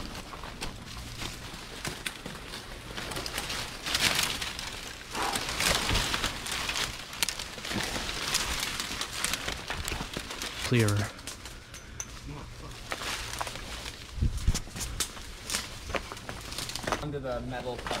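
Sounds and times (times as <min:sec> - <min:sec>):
twigs and branches snapping: 0:00.0 - 0:17.0
leaves rustling: 0:00.0 - 0:18.0.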